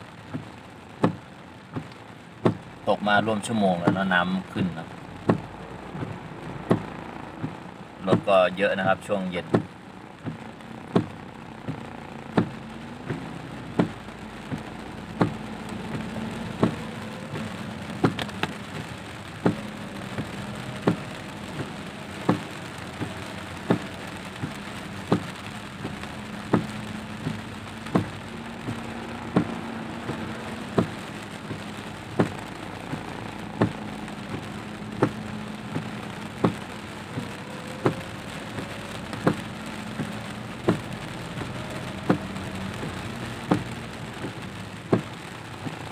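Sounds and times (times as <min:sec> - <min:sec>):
heavy rain on car: 0:00.0 - 0:45.9
windscreen wipers clicking: 0:00.0 - 0:45.9.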